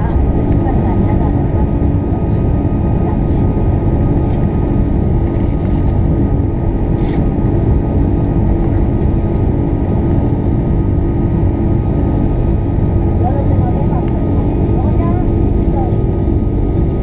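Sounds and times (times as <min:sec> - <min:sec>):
jet engine roar in cabin: 0:00.0 - 0:17.0.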